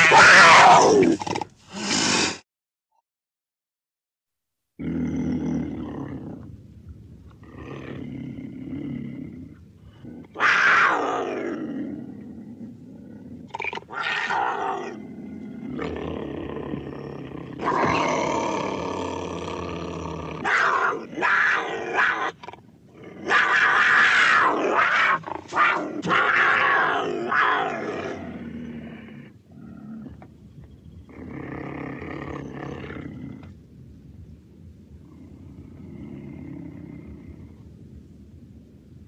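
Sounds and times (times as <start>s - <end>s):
big cat roars and snarls: 0.0s - 2.4s, 4.8s - 6.6s, 7.3s - 30.4s, 31.0s - 33.6s, 35.0s - 37.7s.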